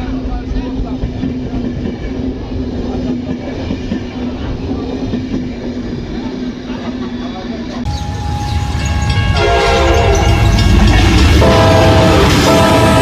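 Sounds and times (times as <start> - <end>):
train carriages rumbling on rails: 0.0 - 13.0.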